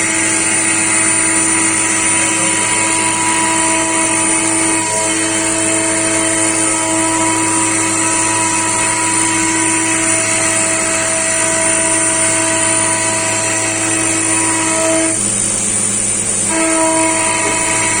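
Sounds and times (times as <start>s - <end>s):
milling machine whine: 0.0s - 18.0s.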